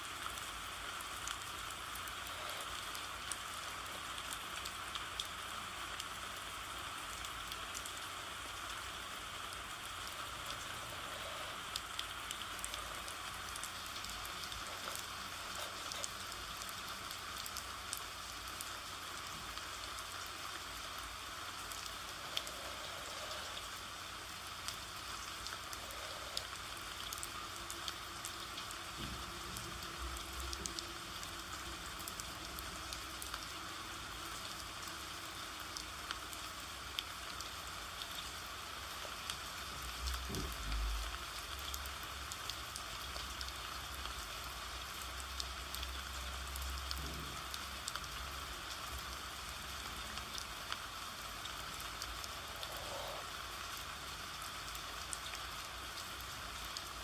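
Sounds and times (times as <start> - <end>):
rain hissing: 0.0 - 57.0.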